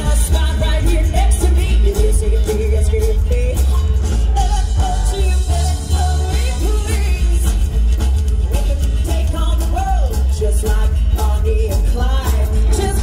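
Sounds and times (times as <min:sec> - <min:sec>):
heavy steady bass: 0:00.0 - 0:13.0
live rock and roll band: 0:00.0 - 0:13.0
person singing: 0:00.0 - 0:13.0.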